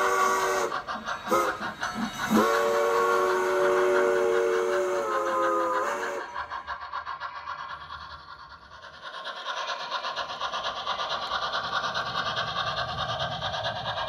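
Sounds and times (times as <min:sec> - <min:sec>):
model steam locomotive chuffing: 0:00.0 - 0:14.0.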